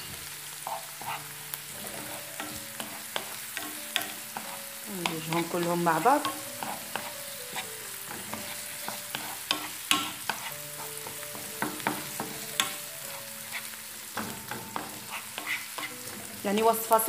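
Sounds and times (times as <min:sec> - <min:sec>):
wooden spoon scraping a pan: 0:00.0 - 0:16.9
onions sizzling in oil: 0:00.0 - 0:17.0.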